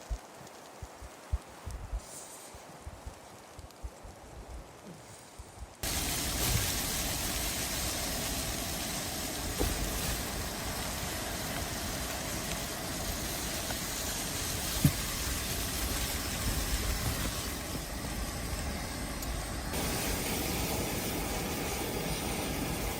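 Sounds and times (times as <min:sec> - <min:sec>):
strong storm wind rumbling: 0:00.0 - 0:22.9.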